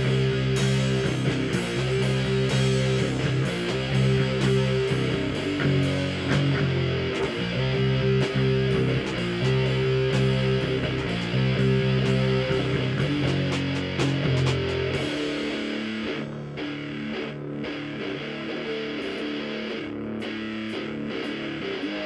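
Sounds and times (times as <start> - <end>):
drums and cymbals: 0.0 - 19.4
electric bass: 0.0 - 22.0
electric guitar held notes: 0.0 - 22.0.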